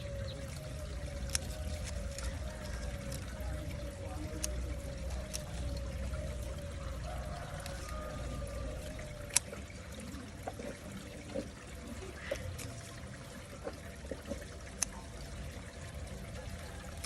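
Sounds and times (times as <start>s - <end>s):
small water drips: 0.0s - 17.0s
water trickling: 0.0s - 17.0s.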